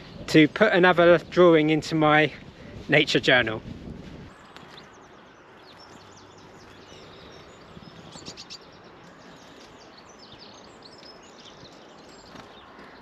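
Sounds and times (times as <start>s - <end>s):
small birds chirping: 0.0s - 3.6s, 4.2s - 13.0s.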